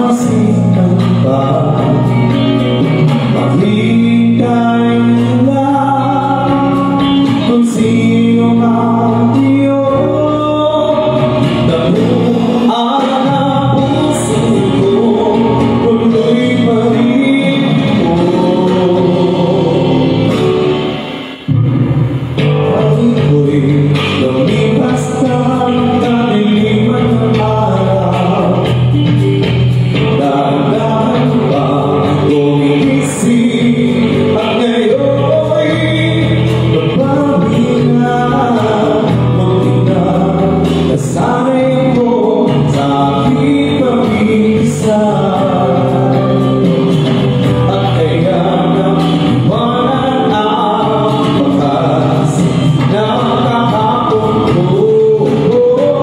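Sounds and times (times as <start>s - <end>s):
instrumental accompaniment: 0.0s - 56.0s
man singing into a microphone: 0.0s - 56.0s.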